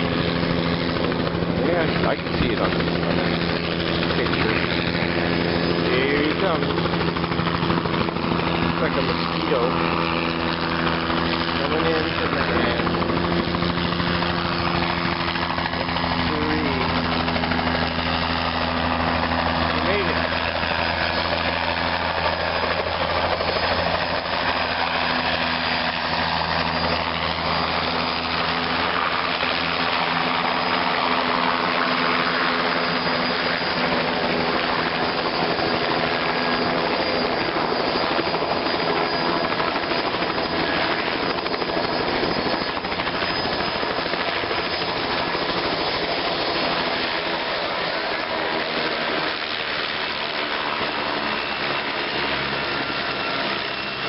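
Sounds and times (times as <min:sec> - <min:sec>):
helicopter engine and rotor running: 0:00.0 - 0:54.0.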